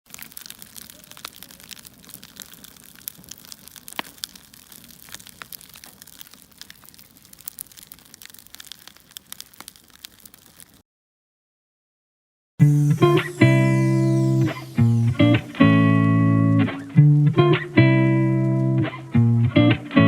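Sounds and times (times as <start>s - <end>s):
log fire crackling: 0.0s - 10.8s, 12.6s - 20.0s.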